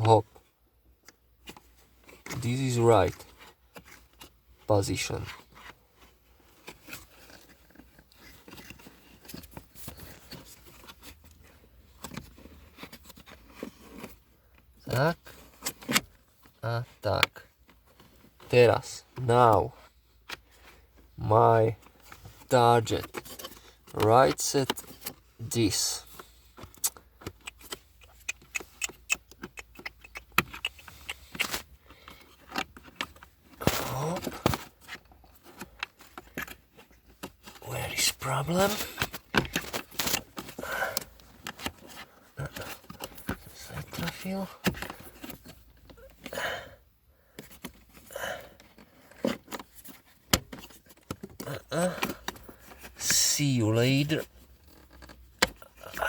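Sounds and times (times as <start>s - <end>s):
plastic parts clicking and scraping: 1.0s - 46.5s, 47.2s - 56.0s.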